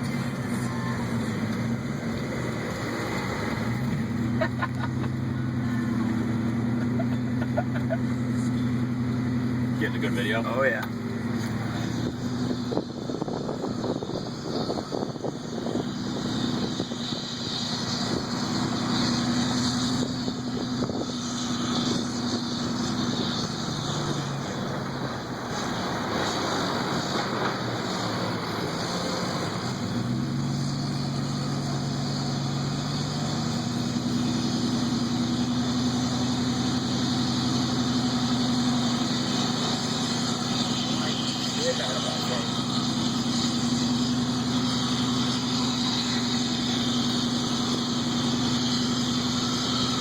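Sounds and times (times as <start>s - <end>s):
road noise: 0.0s - 50.0s
truck engine labouring uphill: 0.0s - 50.0s.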